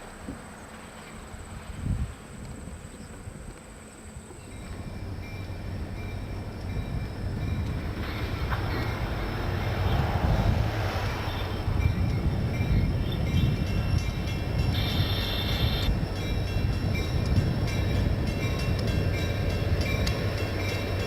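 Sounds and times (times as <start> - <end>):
diesel locomotive engines rumbling: 0.0 - 21.0.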